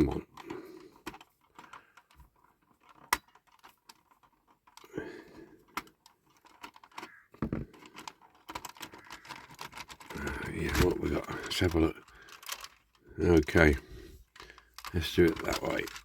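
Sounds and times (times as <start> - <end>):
small plastic and metal parts clicking: 0.0 - 16.0.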